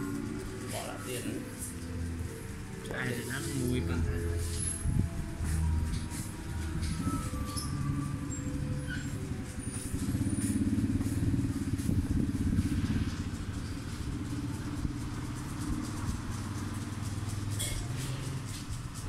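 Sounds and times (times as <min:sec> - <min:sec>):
low engine drone: 0:00.0 - 0:18.8.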